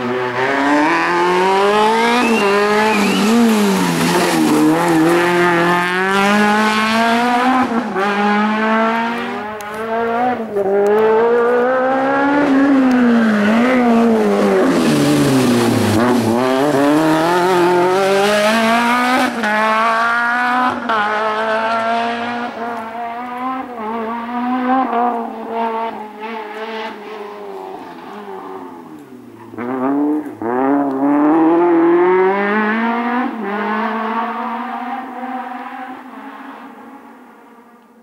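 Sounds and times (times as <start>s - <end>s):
rally car engine revving: 0.0s - 36.9s.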